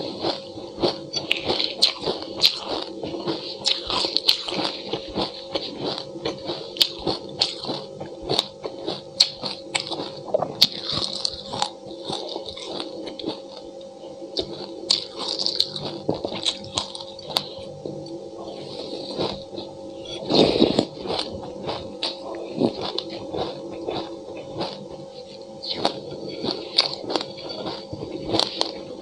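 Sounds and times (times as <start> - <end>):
chewing and crunching seeds: 0.0 - 29.0.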